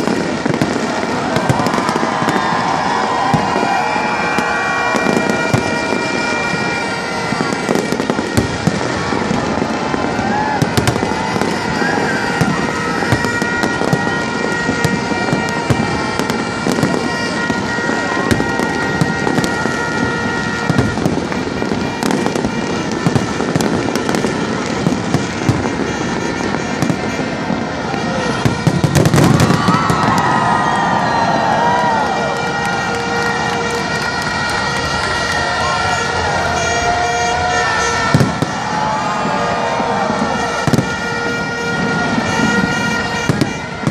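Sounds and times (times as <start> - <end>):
crowd voices: 0.0 - 43.9
fireworks bangs and crackling: 0.0 - 43.9.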